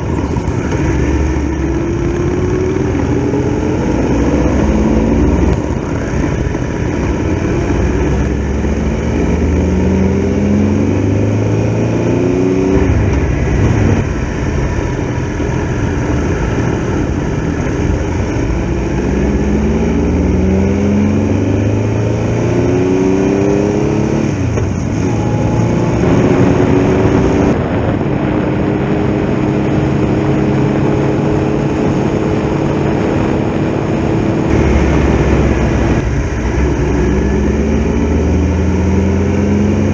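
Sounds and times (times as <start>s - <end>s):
motorcycle engine accelerating through gears: 0.0s - 39.9s
road noise: 0.0s - 39.9s
wind rushing: 0.0s - 39.9s.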